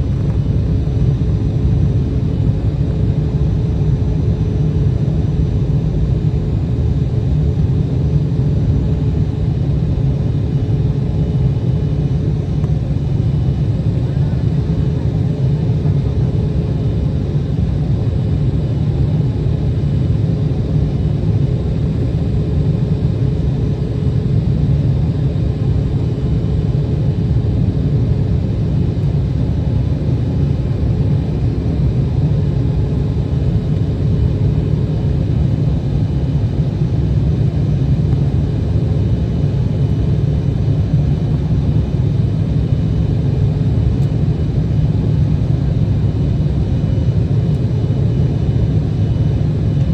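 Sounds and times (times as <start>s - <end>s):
jet cabin low rumble: 0.0s - 49.9s.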